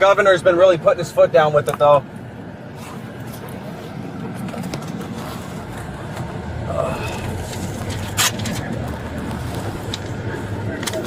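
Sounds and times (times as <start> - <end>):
road and engine noise inside car: 0.0 - 11.0.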